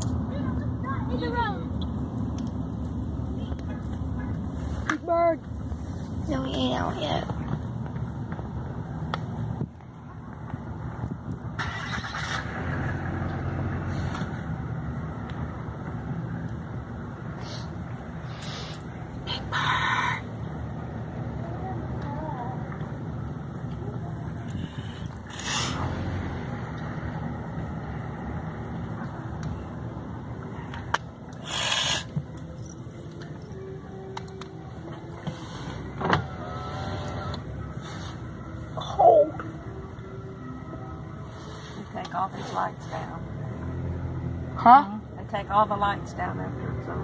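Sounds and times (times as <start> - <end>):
car engine and tyres hum: 0.0 - 47.0.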